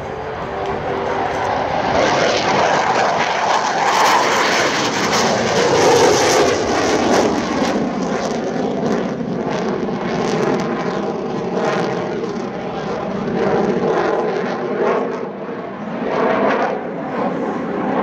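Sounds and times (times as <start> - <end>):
jet engines roaring overhead: 0.0 - 18.0.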